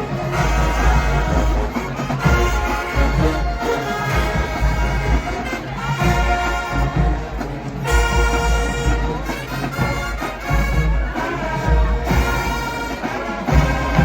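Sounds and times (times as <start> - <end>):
brass holding loud chords: 0.0 - 14.0.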